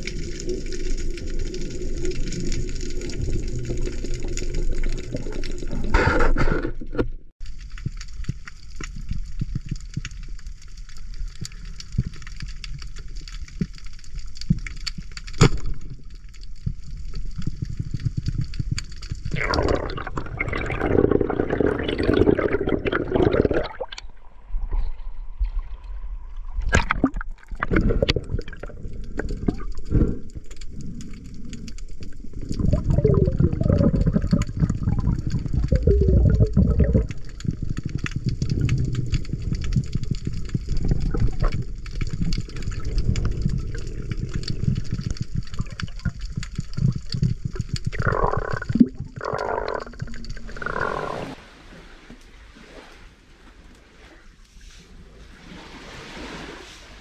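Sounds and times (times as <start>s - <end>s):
water sloshing and gurgling: 0.0s - 57.0s
underwater clicks: 2.0s - 24.1s, 26.6s - 51.4s.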